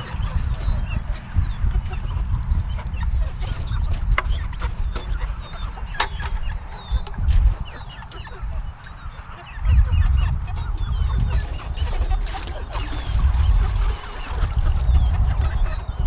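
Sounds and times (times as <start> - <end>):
chickens clucking and peeping: 0.0 - 16.0.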